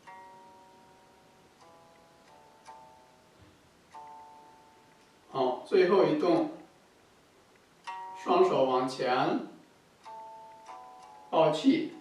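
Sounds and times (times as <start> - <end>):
plucked string notes: 0.0 - 6.8, 7.8 - 12.0.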